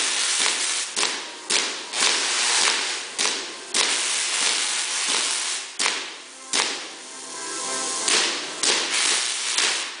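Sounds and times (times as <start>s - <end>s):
electric spark cracks and crackling hiss: 0.0s - 10.0s.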